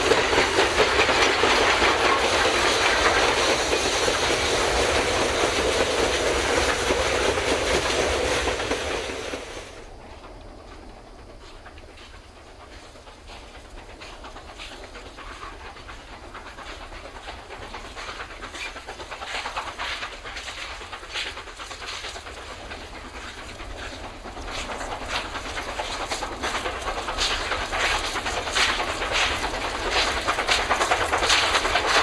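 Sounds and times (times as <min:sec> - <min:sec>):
steam locomotive exhaust chuffs: 0:00.0 - 0:32.0.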